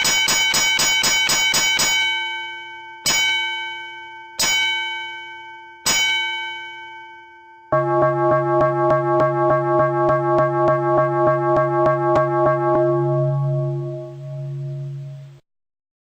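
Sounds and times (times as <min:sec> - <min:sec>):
ship's bell ringing: 0:02.3 - 0:15.2.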